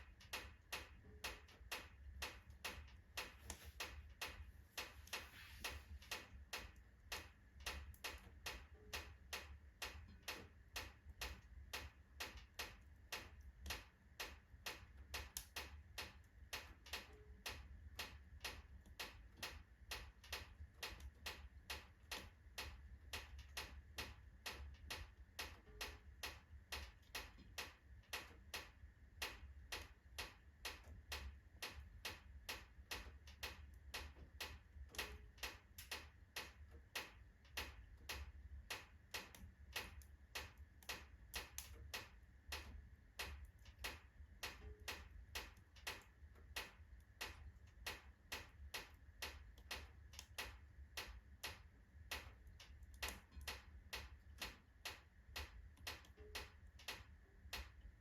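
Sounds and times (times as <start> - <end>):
logs crackling and popping in fire: 0.0 - 57.9.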